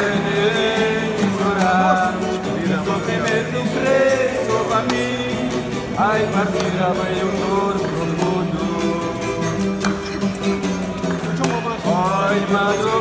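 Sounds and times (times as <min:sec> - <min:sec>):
acoustic guitar playing: 0:00.0 - 0:13.0
voices singing: 0:00.0 - 0:13.0.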